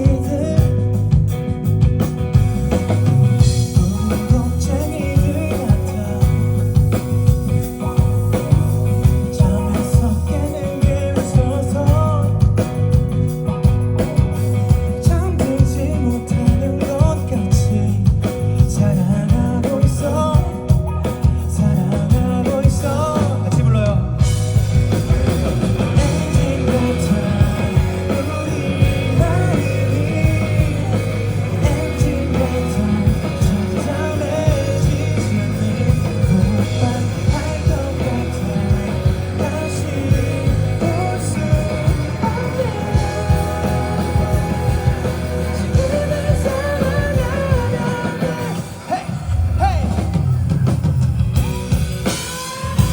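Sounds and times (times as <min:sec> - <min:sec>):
lead singer singing: 0:00.0 - 0:01.5, 0:03.0 - 0:50.6
live rock band playing: 0:00.0 - 0:52.9.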